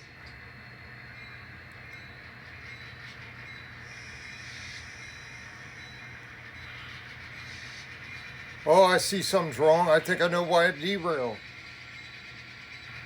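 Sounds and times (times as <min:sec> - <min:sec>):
model locomotive running on track: 0:00.0 - 0:13.0.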